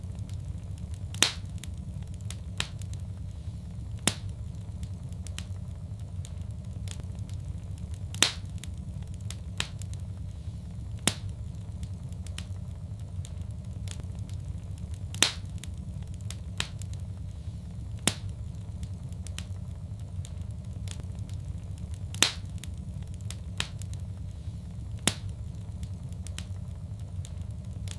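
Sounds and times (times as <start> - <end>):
fire pops and snaps: 0.0 - 27.9
wood fire crackling: 0.0 - 27.9.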